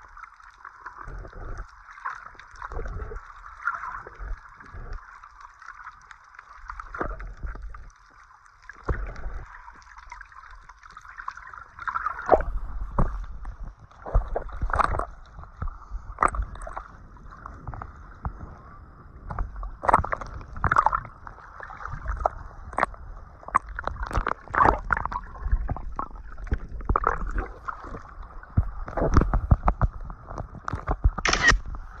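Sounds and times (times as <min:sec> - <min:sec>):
water sloshing and gurgling: 0:00.0 - 0:32.0.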